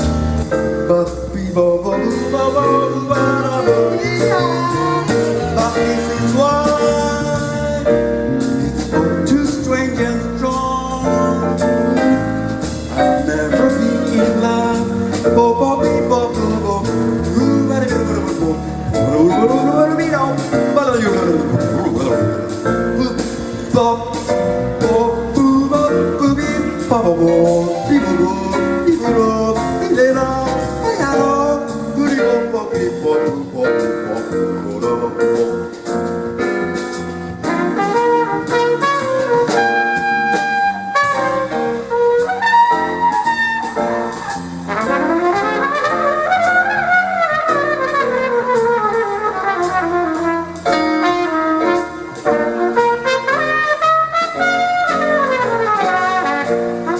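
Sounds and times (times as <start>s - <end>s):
jazz combo playing: 0.0s - 56.9s
mellow flugelhorn melody: 0.0s - 56.9s.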